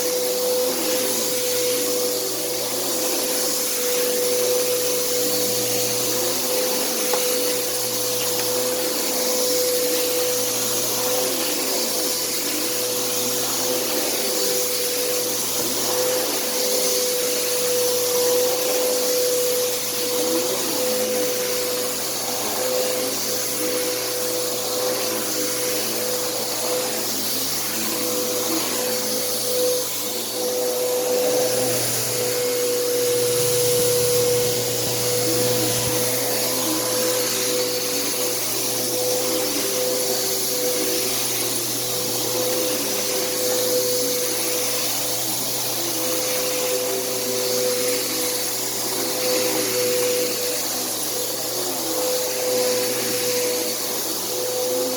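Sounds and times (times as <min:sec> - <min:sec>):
upright vacuum cleaner running: 0:00.0 - 0:54.9.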